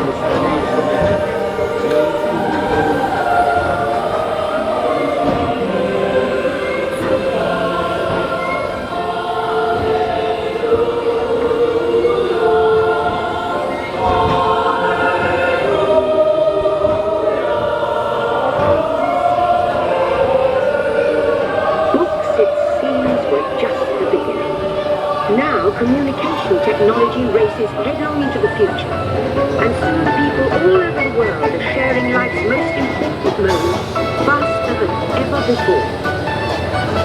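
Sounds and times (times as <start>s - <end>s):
choir singing held notes: 0.0s - 37.0s.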